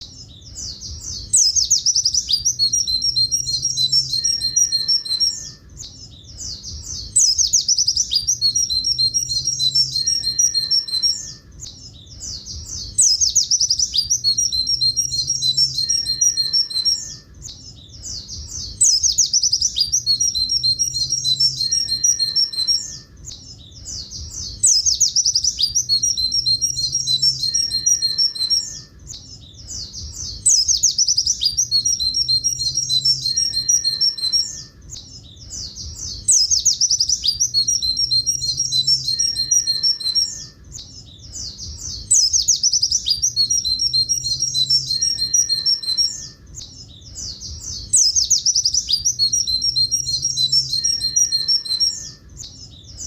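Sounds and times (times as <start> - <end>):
bird twittering song: 0.0 - 53.0.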